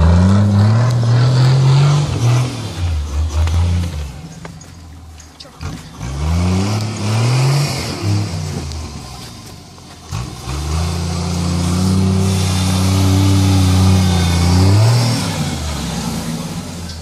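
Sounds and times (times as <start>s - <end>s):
car engine pulling through snow: 0.0s - 17.0s.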